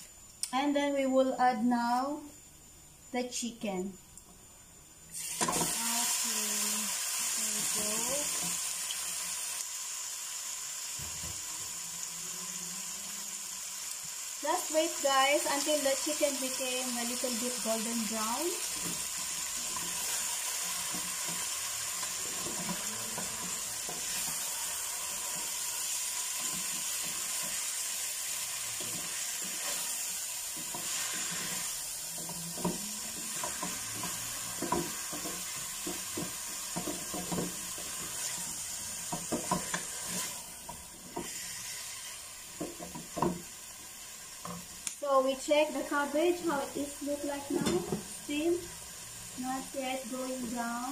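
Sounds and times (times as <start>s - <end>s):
chicken sizzling in oil: 5.1s - 50.9s.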